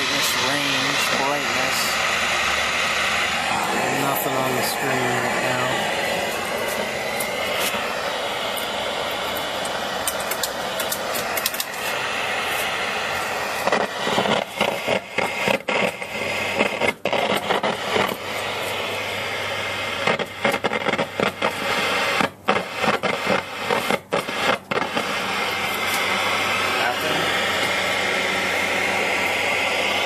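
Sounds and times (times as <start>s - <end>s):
tv speaker static hiss: 0.0s - 30.0s.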